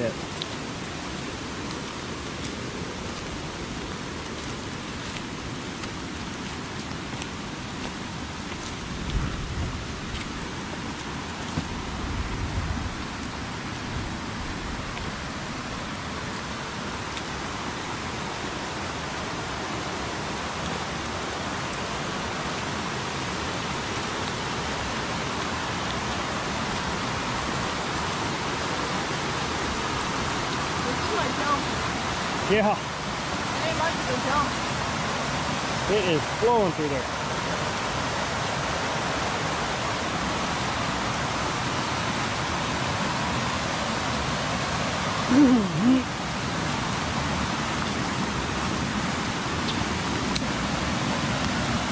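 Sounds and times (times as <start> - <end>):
heavy rain: 0.0 - 51.9
rushing floodwater: 0.0 - 51.9.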